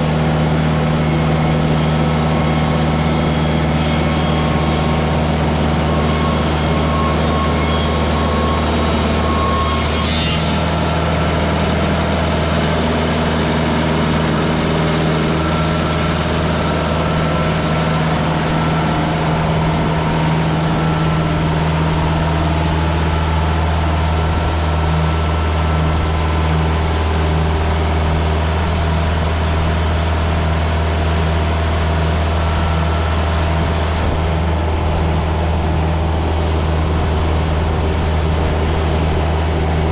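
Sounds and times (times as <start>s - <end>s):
band blade sawing log: 0.0s - 39.9s
band sawmill engine under load: 0.0s - 39.9s.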